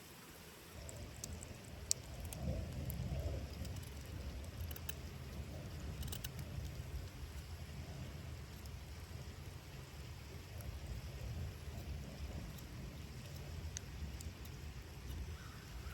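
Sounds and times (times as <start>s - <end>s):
campfire crackling: 0.2s - 15.9s
low steady rumble: 0.7s - 15.9s.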